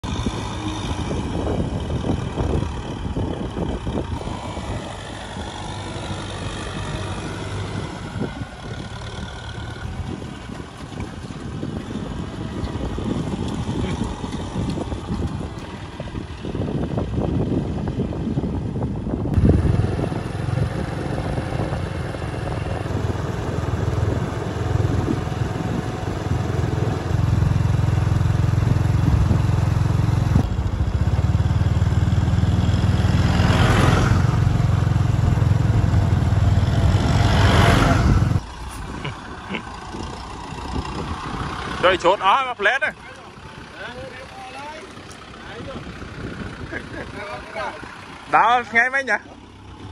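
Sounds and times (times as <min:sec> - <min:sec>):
rushing wind-like noise: 0:00.0 - 0:27.4, 0:28.5 - 0:42.1
vehicle engine running: 0:00.0 - 0:49.9.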